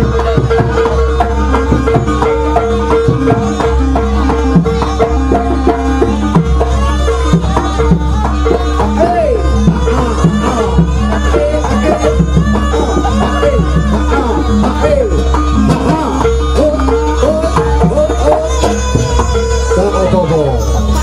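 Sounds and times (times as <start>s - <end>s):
busy drum rhythm: 0.0s - 21.0s
wavering high melody: 0.0s - 21.0s.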